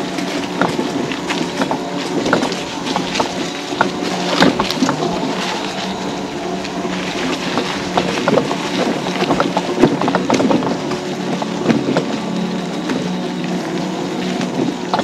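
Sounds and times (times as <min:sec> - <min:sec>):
mobility scooter motor hum: 0:00.0 - 0:15.0.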